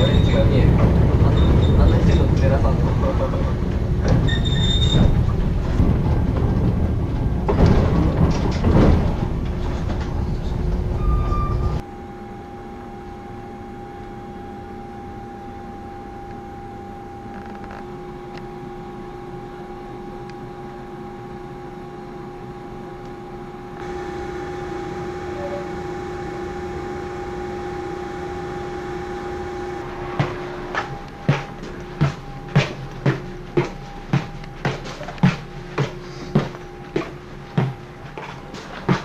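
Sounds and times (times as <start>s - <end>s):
steady mechanical hum with tones: 0.0s - 39.0s.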